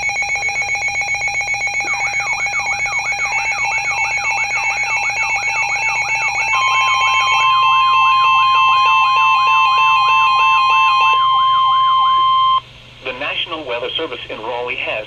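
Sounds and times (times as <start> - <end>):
loud steady alarm tone: 0.0 - 12.6
stepped electronic beeps: 0.0 - 12.6
warbling electronic alarm: 0.0 - 12.6.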